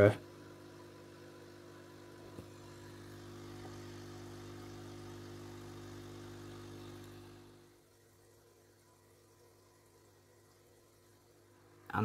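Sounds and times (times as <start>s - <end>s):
aquarium air pump humming: 0.0s - 12.0s.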